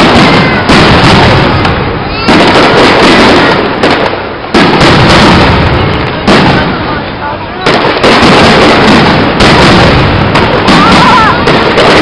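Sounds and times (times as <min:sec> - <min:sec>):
smaller firework bang: 0:00.0 - 0:07.0, 0:07.6 - 0:12.0
firework shells booming: 0:00.0 - 0:12.0.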